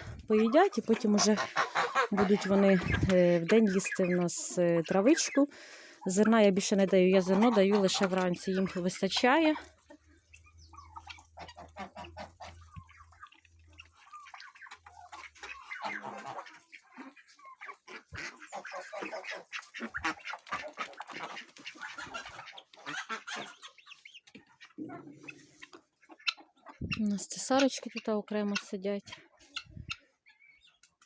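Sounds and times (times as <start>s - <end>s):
chickens clucking and calling: 0.0s - 30.9s.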